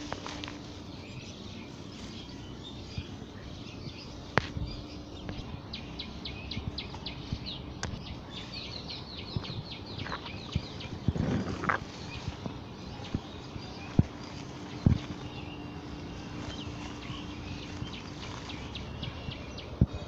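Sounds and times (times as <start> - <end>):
bird chirping quickly: 0.0 - 20.0
outdoor background hiss: 0.0 - 20.0.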